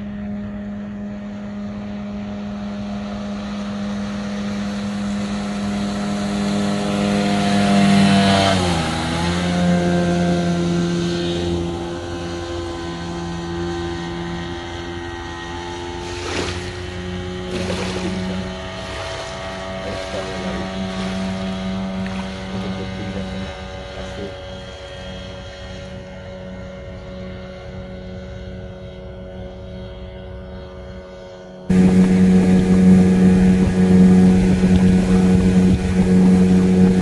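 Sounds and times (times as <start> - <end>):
outboard motor at full throttle: 0.0 - 37.0.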